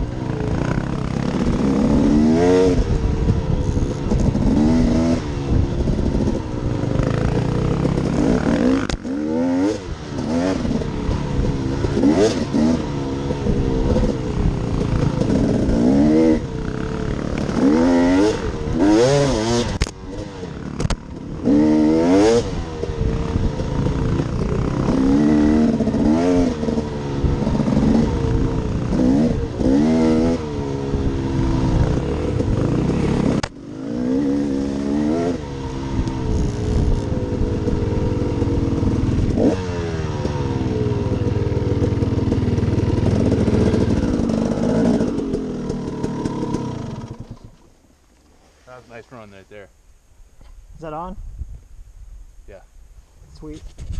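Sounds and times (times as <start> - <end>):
dirt bike engine revving: 0.0 - 47.7.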